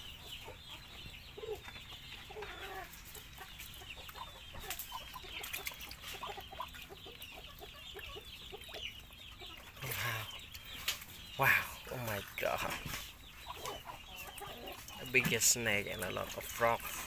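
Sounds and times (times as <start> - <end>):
duckling peeping: 0.0 - 17.0.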